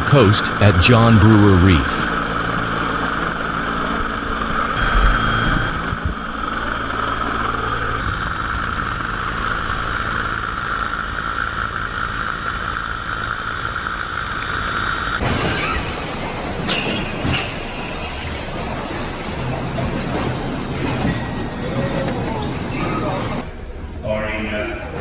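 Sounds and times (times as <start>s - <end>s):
helicopter rotor: 0.0s - 23.8s
helicopter high whine: 0.0s - 25.0s.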